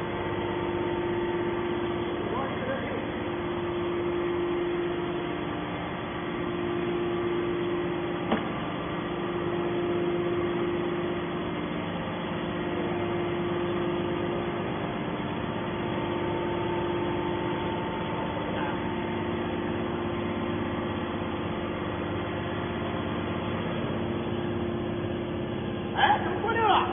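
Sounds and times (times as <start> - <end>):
hydraulic pump humming: 0.0 - 26.9.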